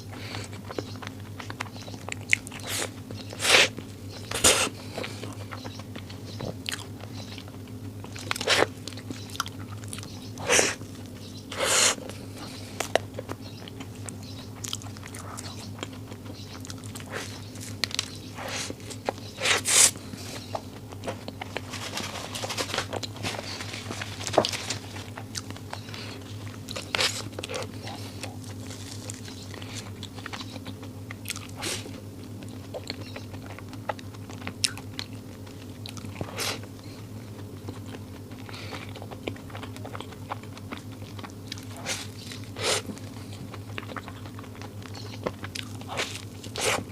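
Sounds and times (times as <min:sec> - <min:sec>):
biting and chewing: 0:00.0 - 0:46.9
steady low hum: 0:00.0 - 0:46.9.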